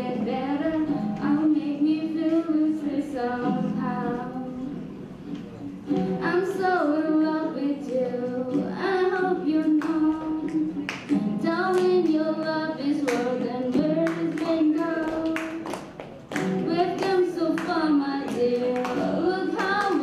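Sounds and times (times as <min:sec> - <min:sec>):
women singing: 0:00.0 - 0:04.8, 0:06.2 - 0:10.7, 0:11.4 - 0:15.7, 0:16.6 - 0:20.0
acoustic guitar: 0:00.0 - 0:20.0.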